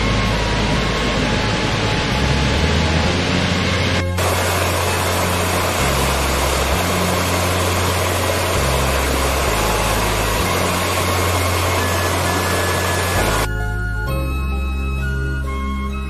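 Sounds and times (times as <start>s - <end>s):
stream water rushing: 0.0s - 13.5s
background music with bass notes: 0.0s - 16.0s.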